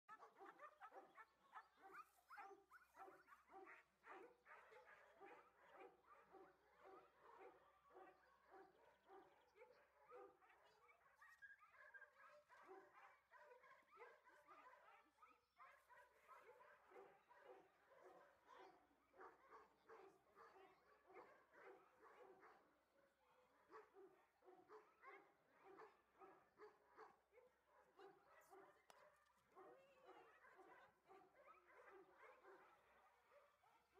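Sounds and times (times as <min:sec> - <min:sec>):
dogs barking: 0:00.1 - 0:33.9.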